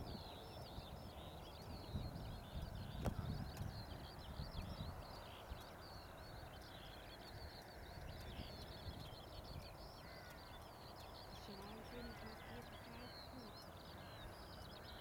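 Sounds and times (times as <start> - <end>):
distant birds twittering: 0.0 - 15.0.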